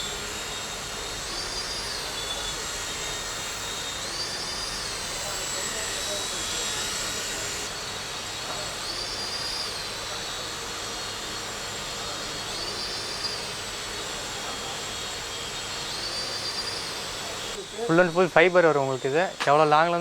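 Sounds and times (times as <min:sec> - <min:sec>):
toy helicopter motor whirring: 0:00.0 - 0:20.0.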